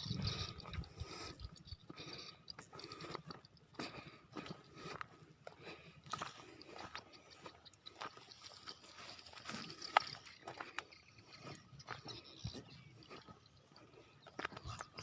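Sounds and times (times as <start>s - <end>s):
footsteps crunching on dirt: 2.6s - 15.0s.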